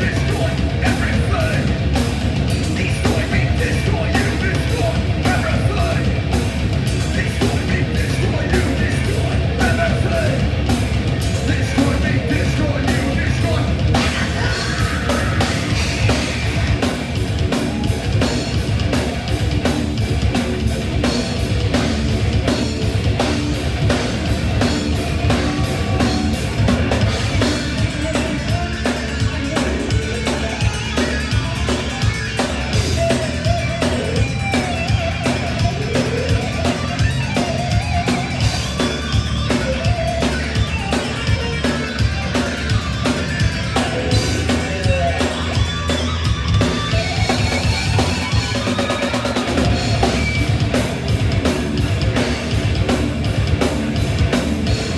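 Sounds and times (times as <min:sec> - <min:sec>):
fast dense drumming: 0:00.0 - 0:54.9
heavy metal band playing live: 0:00.0 - 0:54.9.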